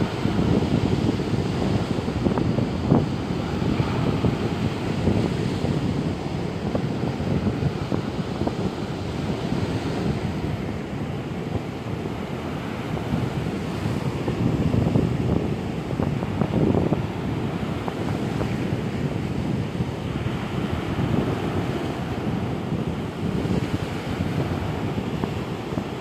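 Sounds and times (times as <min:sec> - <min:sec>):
waves breaking on beach: 0:00.0 - 0:26.0
wind buffeting microphone: 0:00.0 - 0:26.0.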